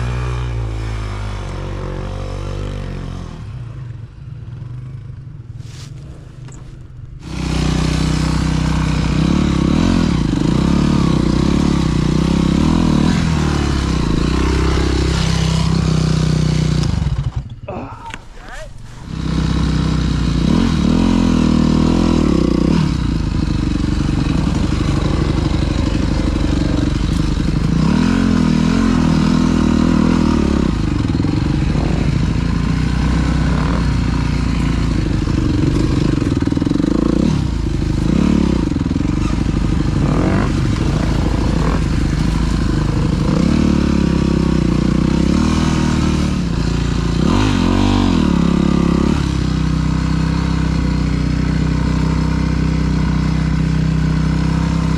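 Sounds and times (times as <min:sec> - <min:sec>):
dirt bike engine revving: 0:05.6 - 0:17.6, 0:18.3 - 0:54.9.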